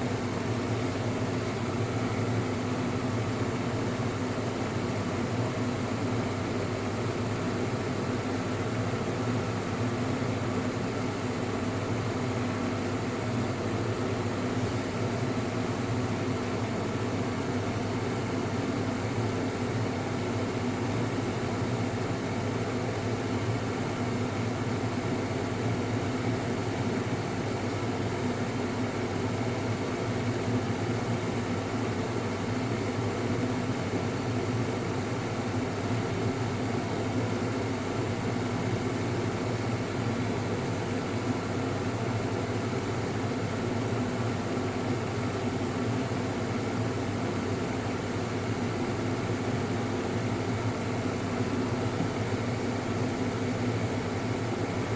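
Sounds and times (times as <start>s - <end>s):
steady machine hum: 0.0s - 54.9s.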